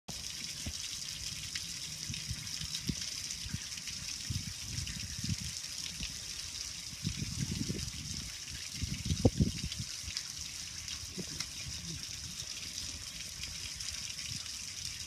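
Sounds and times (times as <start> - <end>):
water splashing on grill: 0.1 - 15.0.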